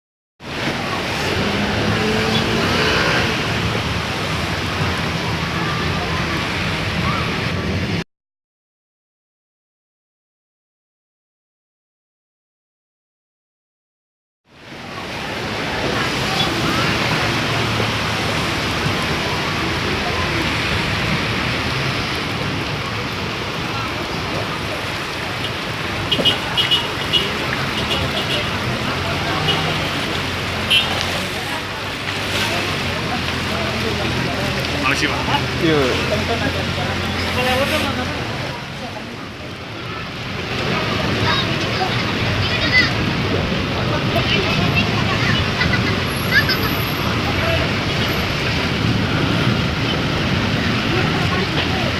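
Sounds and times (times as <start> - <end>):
heavy rain: 0.4 - 8.0, 14.5 - 51.9
strong wind: 0.4 - 8.0, 14.6 - 51.9.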